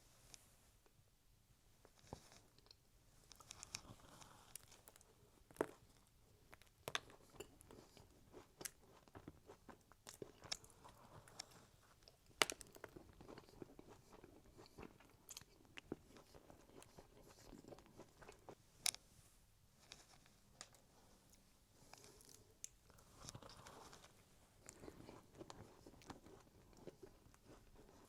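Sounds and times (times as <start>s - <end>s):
chewing cookie: 1.8s - 19.0s, 19.8s - 28.0s
cookie crunches: 2.0s - 18.6s, 21.9s - 28.0s.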